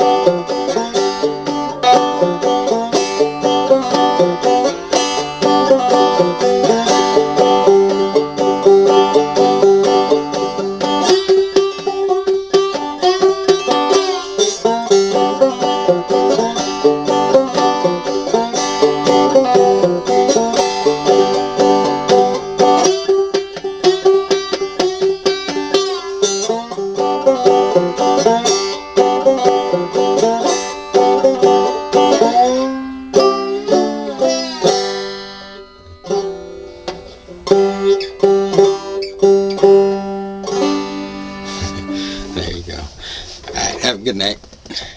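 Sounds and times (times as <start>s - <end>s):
banjo playing blues: 0.0s - 44.0s.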